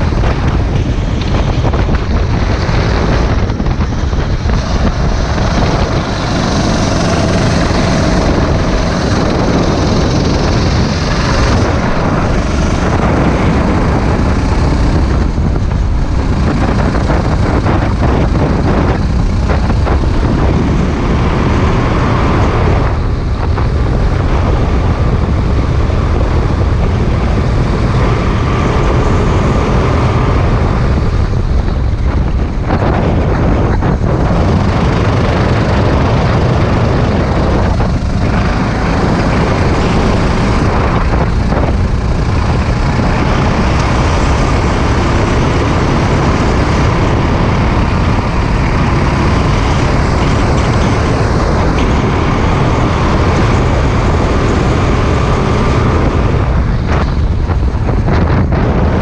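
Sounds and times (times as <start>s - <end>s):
kart engine racing: 0.0s - 59.0s
wind rushing over microphone: 0.0s - 59.0s.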